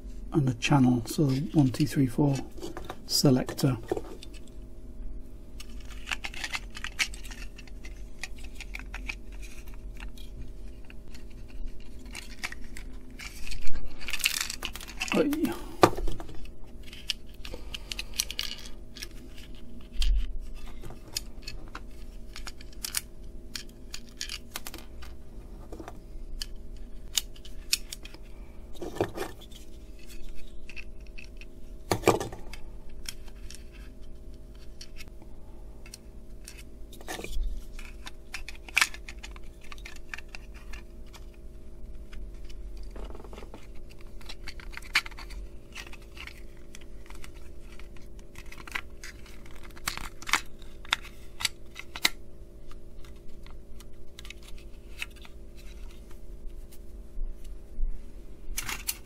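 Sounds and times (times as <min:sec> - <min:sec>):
faint steady hum: 0:00.0 - 0:59.0
plastic parts clicking and scraping: 0:01.1 - 0:04.6, 0:05.6 - 0:35.1, 0:35.8 - 0:56.8, 0:58.5 - 0:59.0.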